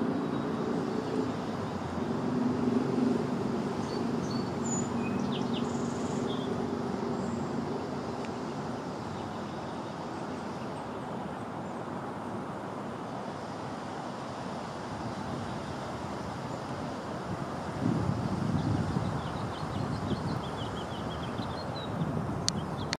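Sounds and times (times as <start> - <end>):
outdoor background noise: 0.0 - 22.9.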